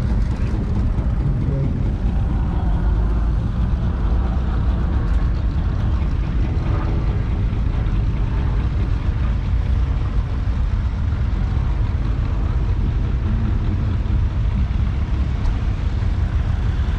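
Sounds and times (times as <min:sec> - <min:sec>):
tractor engine running: 0:00.0 - 0:16.9.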